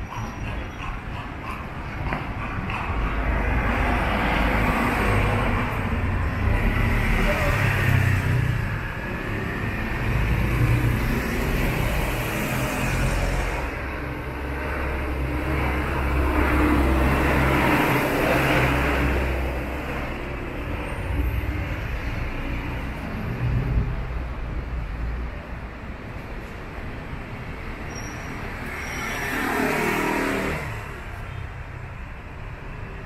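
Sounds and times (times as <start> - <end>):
road traffic engines: 0.0 - 33.0.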